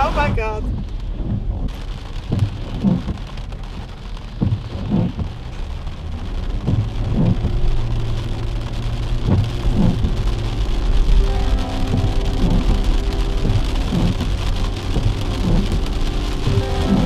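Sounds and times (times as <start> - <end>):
rain on car windscreen: 0.0 - 17.0
road rumble: 0.0 - 17.0
windscreen wipers sweeping: 0.0 - 17.0.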